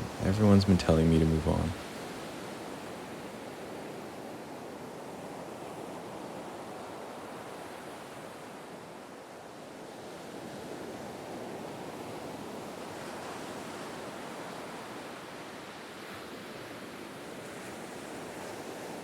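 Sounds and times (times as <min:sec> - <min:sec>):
ocean surf on a beach: 0:00.0 - 0:19.0.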